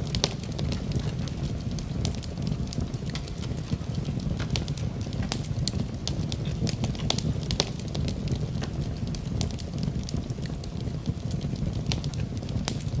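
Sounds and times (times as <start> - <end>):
rain falling: 0.0 - 13.0
wood fire crackling: 0.0 - 13.0.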